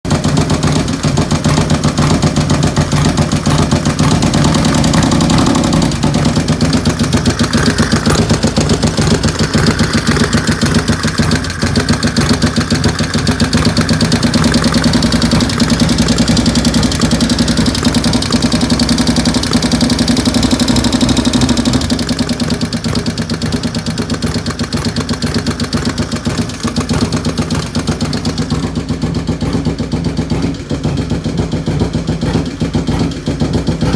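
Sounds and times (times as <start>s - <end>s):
engine idling with ticking: 0.1s - 33.9s.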